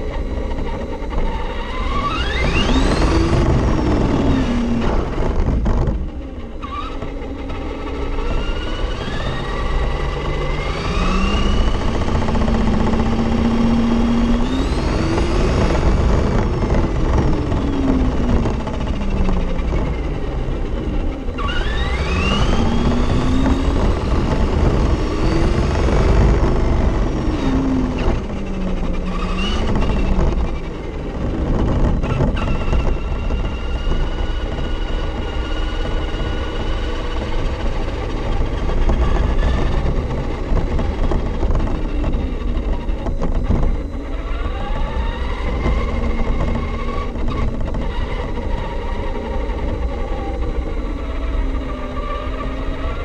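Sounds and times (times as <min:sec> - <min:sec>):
electric motor whining: 0:00.0 - 0:53.0
tyres rumbling on asphalt: 0:00.0 - 0:53.0.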